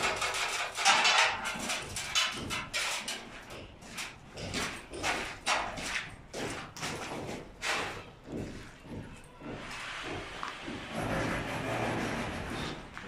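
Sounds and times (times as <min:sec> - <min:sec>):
building site knocks and scraping: 0:00.0 - 0:13.0.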